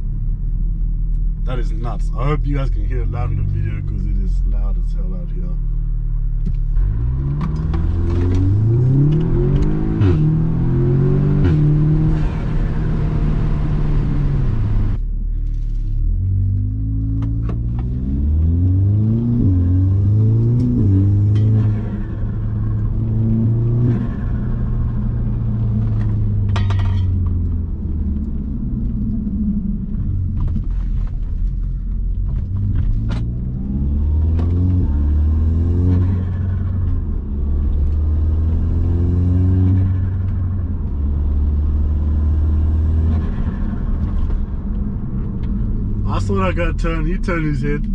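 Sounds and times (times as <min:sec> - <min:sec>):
car engine revving: 0:01.5 - 0:15.0, 0:16.0 - 0:47.9.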